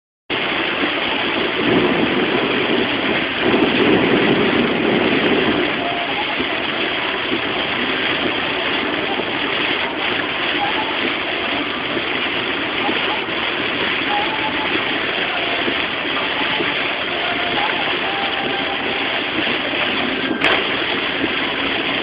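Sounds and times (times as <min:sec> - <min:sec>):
heavy rain on car: 0:00.3 - 0:22.0
tyre and road noise: 0:00.3 - 0:22.0.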